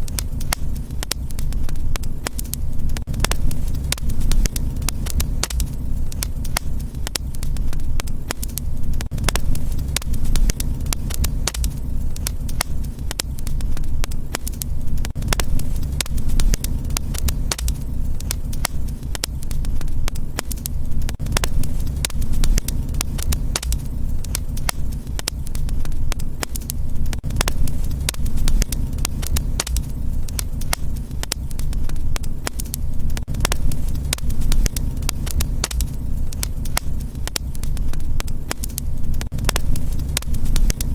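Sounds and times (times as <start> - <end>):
low rumble of flames: 0.0 - 40.9
sharp pops and snaps: 0.0 - 40.9
wood fire crackling: 0.0 - 40.9.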